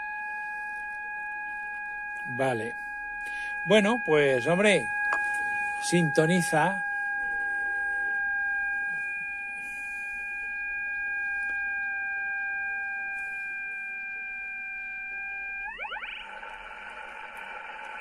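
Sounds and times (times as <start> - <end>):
steady whistle-like tone: 0.0 - 18.0.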